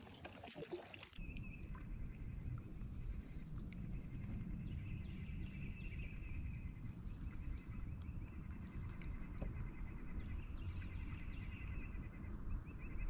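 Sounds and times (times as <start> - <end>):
low fluctuating rumble: 1.2 - 13.0.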